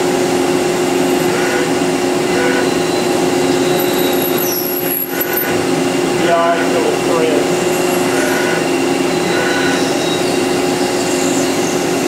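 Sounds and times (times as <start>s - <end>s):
lathe drilling machine whir: 0.0s - 12.0s.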